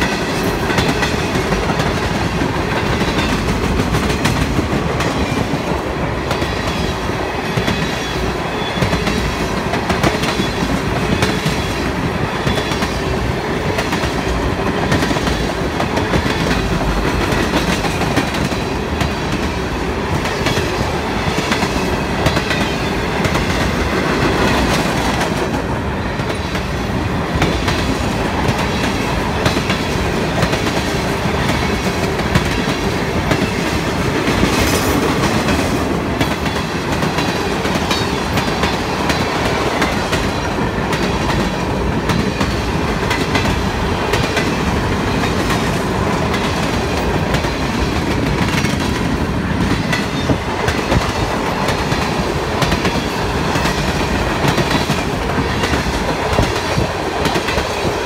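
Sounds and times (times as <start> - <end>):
steel wheels running on rails: 0.0 - 58.0.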